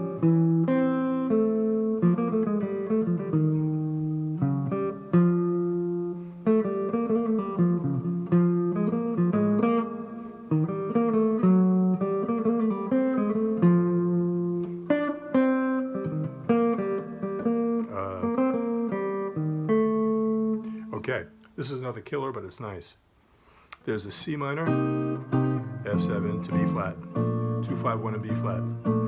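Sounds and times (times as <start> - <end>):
jazz guitar chords: 0.0 - 21.6, 24.1 - 29.0.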